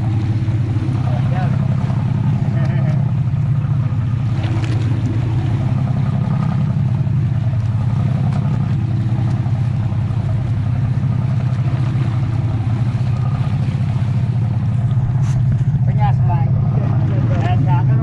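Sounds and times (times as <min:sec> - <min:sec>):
boat engine droning: 0:00.0 - 0:18.0
water rushing along hull: 0:00.0 - 0:18.0.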